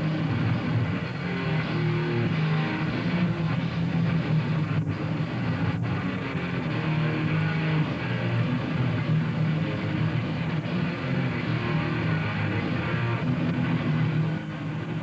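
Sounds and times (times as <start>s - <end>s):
death metal band playing live: 0.0s - 15.0s.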